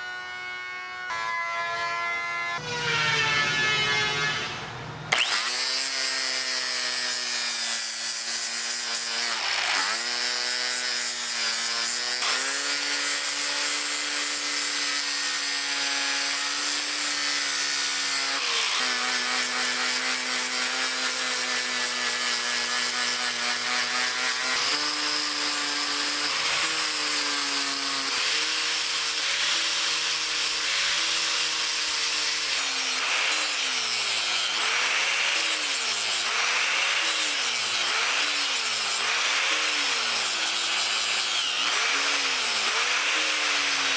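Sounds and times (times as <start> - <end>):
power tool grinding steel: 0.0 - 43.9.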